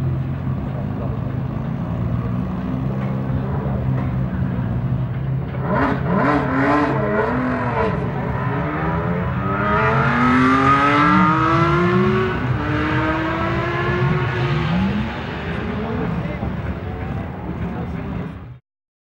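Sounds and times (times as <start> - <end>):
racing engine revving: 2.3 - 18.4.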